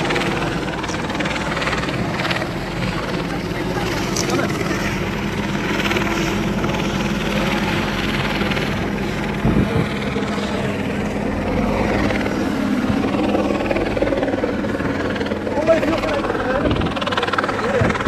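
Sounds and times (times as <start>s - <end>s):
mechanical drone with low hum: 0.0s - 18.0s.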